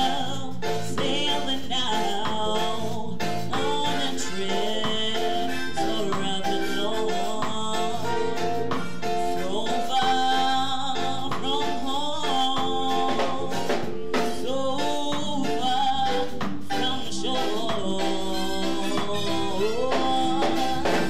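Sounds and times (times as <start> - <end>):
guitar: 0.0 - 21.0
instrumental accompaniment: 0.0 - 21.0
live band music: 0.0 - 21.0
person singing: 0.0 - 21.0.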